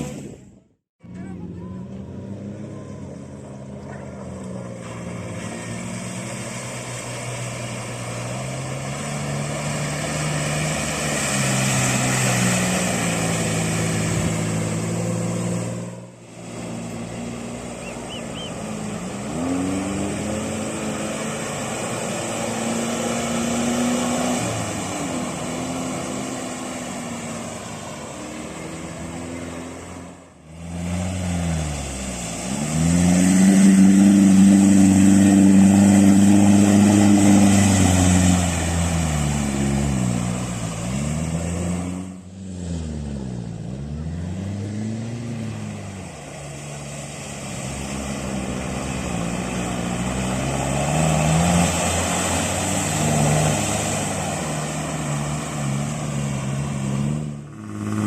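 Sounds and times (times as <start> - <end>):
engine revving under load: 1.0 - 58.0.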